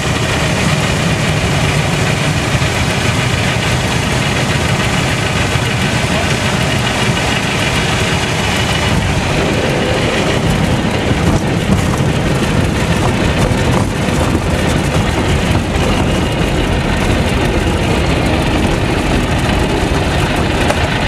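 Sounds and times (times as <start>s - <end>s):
aircraft engine and propeller: 0.0s - 21.0s.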